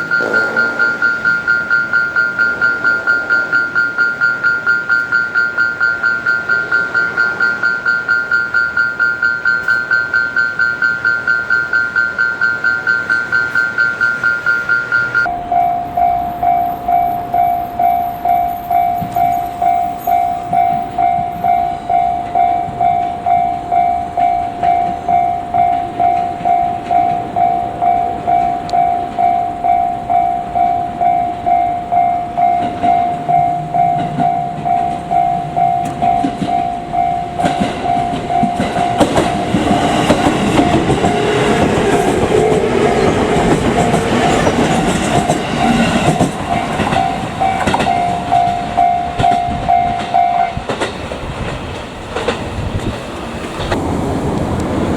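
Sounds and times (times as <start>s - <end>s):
level crossing bell ringing: 0.0s - 50.6s
electric train passing: 0.0s - 54.9s
train wheels clattering on rails: 0.0s - 54.9s.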